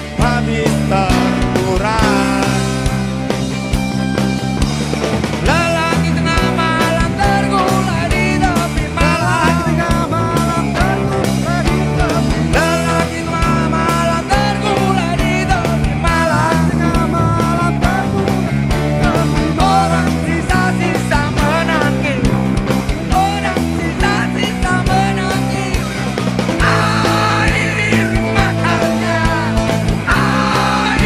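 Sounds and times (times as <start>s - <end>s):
drums keeping steady beat: 0.0s - 31.0s
live rock band playing: 0.0s - 31.0s.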